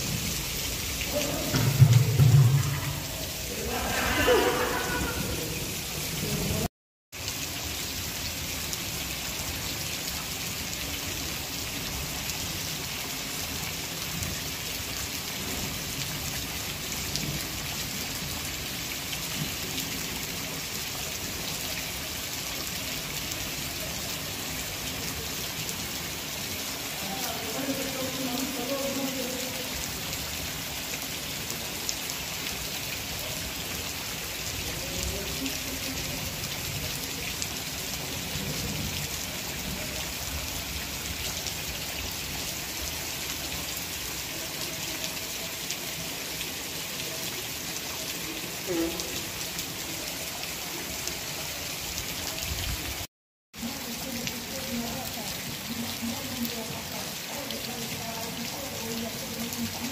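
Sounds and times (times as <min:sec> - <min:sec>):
heavy rain on concrete: 0:00.0 - 0:59.9.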